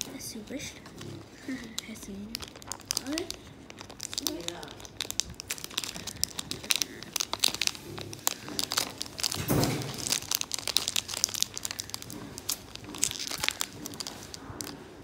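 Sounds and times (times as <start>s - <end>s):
dull rumble: 0.0s - 15.0s
plastic wrappers crinkling: 0.0s - 15.0s.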